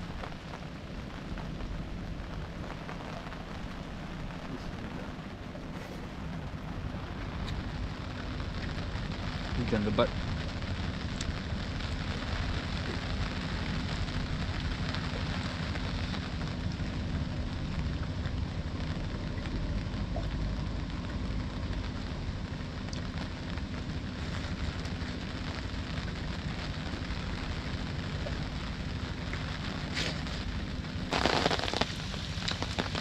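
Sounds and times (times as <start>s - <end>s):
heavy rain on an umbrella: 0.0s - 33.0s
low rumble: 0.0s - 33.0s.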